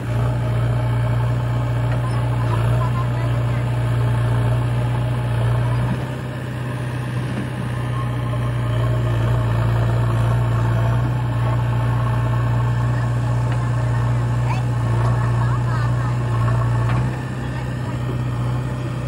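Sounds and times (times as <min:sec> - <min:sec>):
diesel engines idling: 0:00.0 - 0:19.0.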